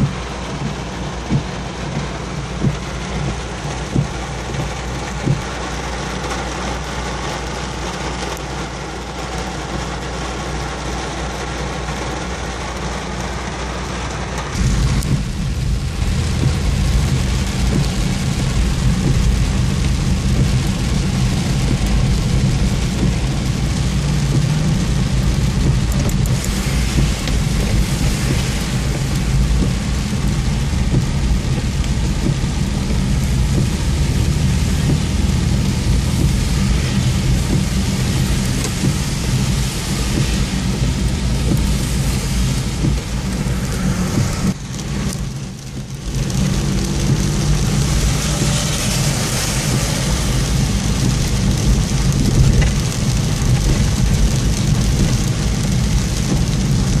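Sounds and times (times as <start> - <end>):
engine hum: 0.0 - 57.0
heavy rain drumming on vehicle: 0.0 - 57.0.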